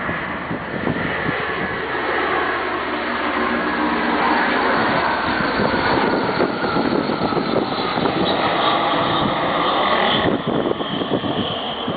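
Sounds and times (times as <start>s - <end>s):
aircraft engines droning overhead: 0.0s - 11.9s.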